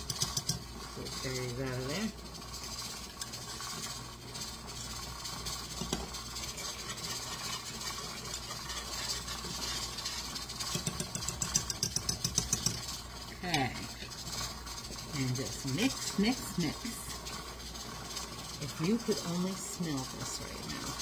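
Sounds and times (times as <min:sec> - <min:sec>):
steady low hum: 0:00.0 - 0:21.0
whisk scraping a metal pot: 0:00.0 - 0:21.0.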